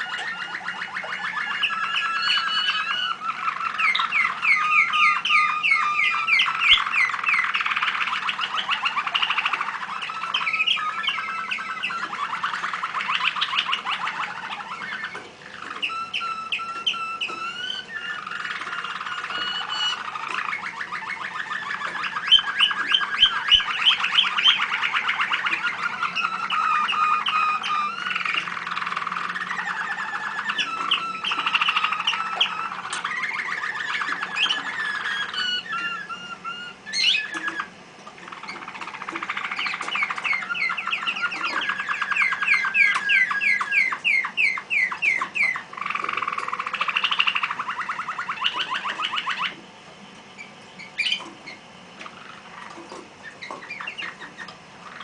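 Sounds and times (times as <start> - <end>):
canaries singing trills: 0.0 - 55.0.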